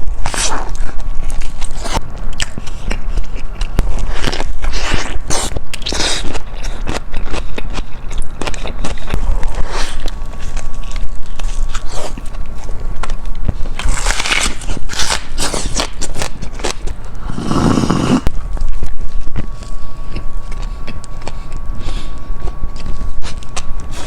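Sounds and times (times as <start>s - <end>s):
crunching and chewing food: 0.0s - 24.0s.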